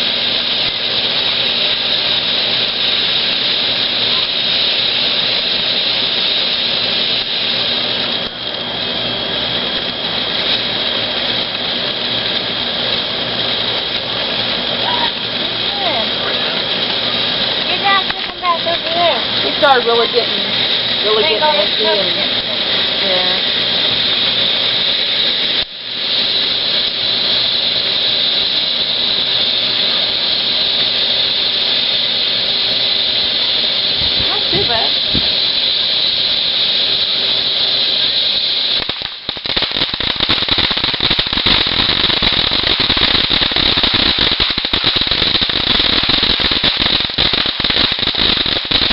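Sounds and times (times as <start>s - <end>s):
firework fountain hissing: 0.0s - 48.9s.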